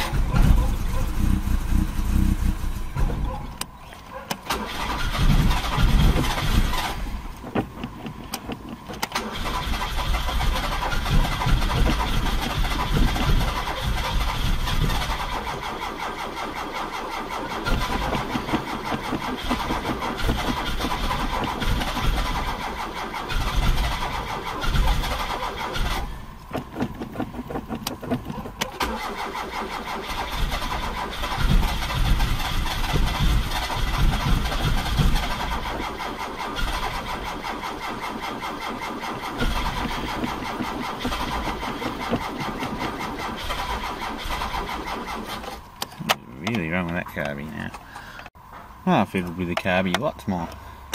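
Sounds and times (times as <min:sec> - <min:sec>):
engine cranking on starter: 0:00.0 - 0:48.4.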